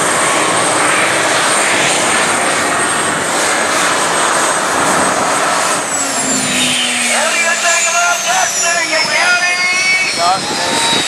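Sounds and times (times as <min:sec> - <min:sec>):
high whine: 0:00.0 - 0:11.0.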